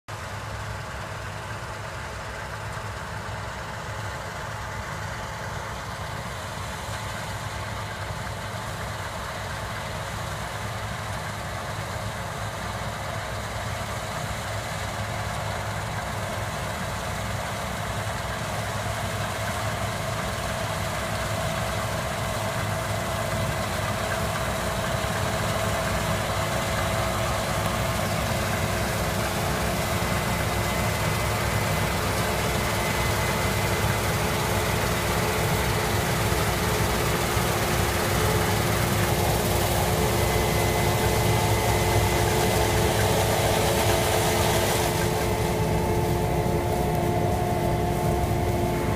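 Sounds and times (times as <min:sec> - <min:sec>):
farm machinery engine running: 0:00.1 - 0:48.9.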